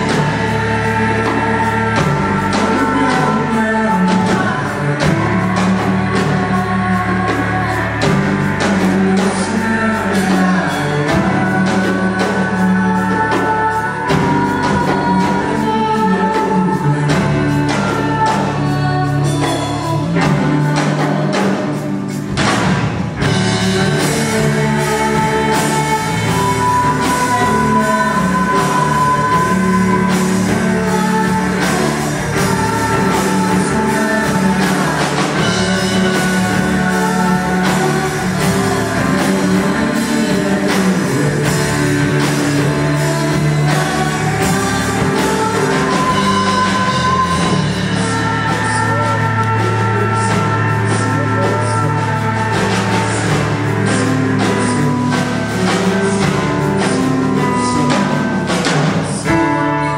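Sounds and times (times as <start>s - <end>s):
drum kit beat: 0.0s - 59.9s
electric guitar: 0.0s - 59.9s
several people singing: 0.0s - 59.9s.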